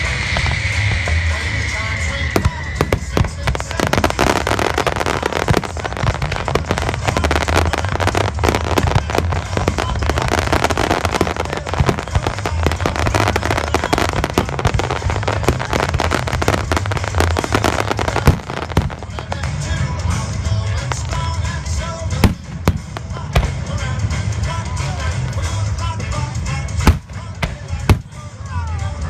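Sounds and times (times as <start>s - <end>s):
fireworks popping and crackling: 0.0s - 28.4s.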